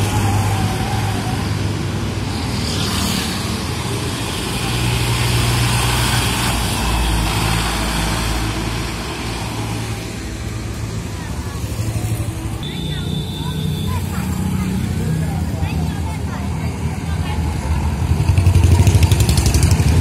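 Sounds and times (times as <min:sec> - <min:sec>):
tractor engines droning: 0:00.0 - 0:20.0.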